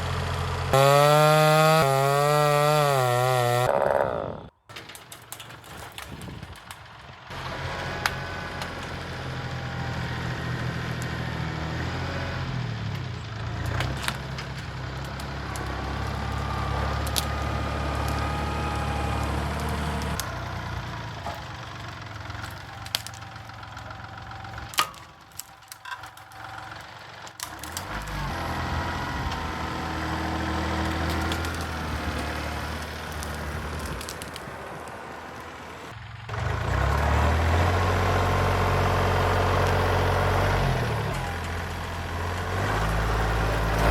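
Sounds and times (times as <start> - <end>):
tractor diesel engine under load: 0.0 - 43.9
wood cracking and splintering: 0.1 - 43.9.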